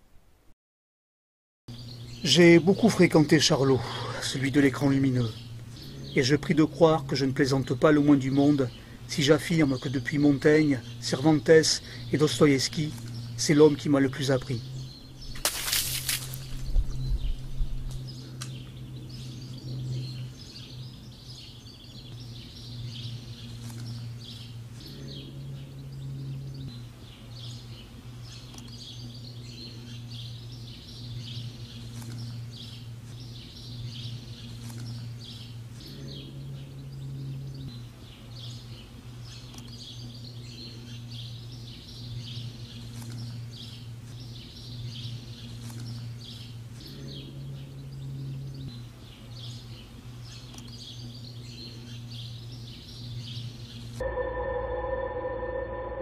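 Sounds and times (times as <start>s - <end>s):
small birds chirping and singing: 1.7s - 54.0s
steady low hum: 1.7s - 56.0s.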